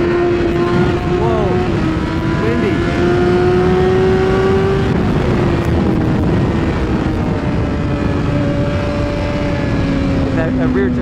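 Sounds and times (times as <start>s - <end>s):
motorcycle engine at high revs: 0.0s - 11.0s
wind rush: 0.0s - 11.0s.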